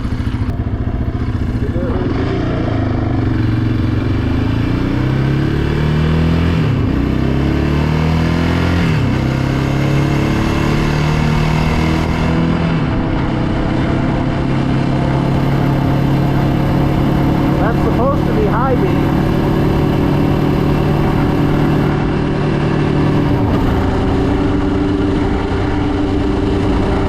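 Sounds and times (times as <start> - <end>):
atv engine accelerating: 0.0 - 27.0.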